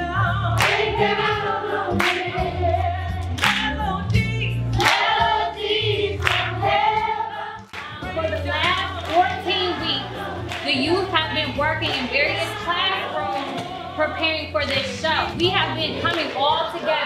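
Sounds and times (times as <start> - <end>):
chorus singing with music: 0.0 - 17.0.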